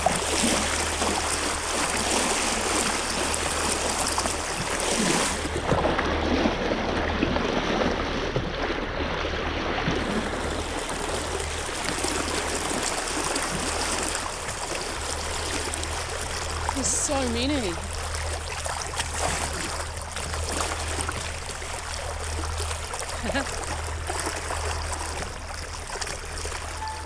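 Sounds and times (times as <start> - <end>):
stream flowing: 0.0 - 27.0.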